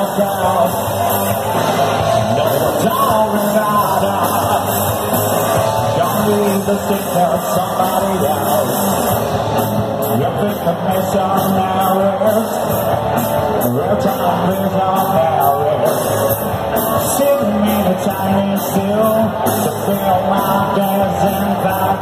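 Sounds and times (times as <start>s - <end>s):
lead singer singing: 0.0s - 22.0s
live rock band playing: 0.0s - 22.0s.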